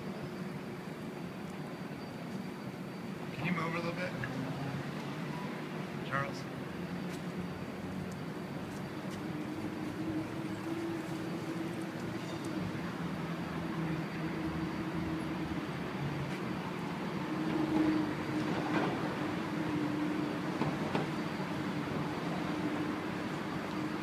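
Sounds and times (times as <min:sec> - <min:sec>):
city street traffic: 0:00.0 - 0:24.0
vehicle engine humming: 0:02.6 - 0:24.0.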